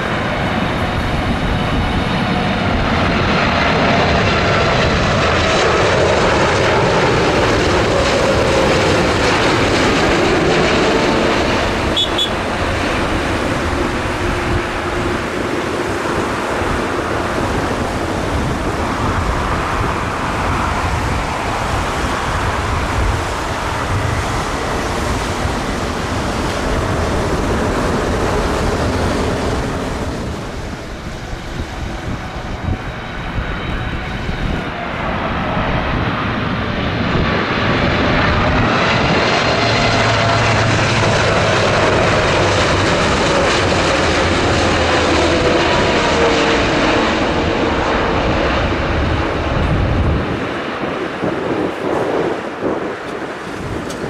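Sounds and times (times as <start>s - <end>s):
jet engine whine falling in pitch: 0.0s - 54.0s
jet engines of landing plane: 0.0s - 54.0s.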